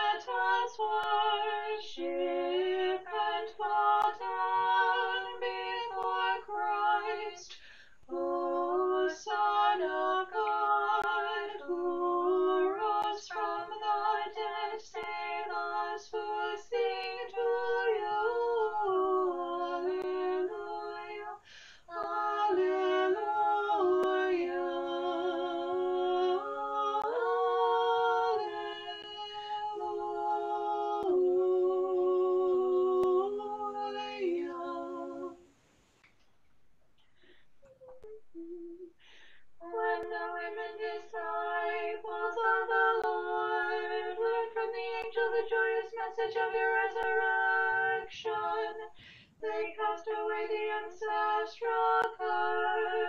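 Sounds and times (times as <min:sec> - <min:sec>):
women singing in harmony: 0:00.0 - 0:35.6, 0:37.7 - 0:53.0.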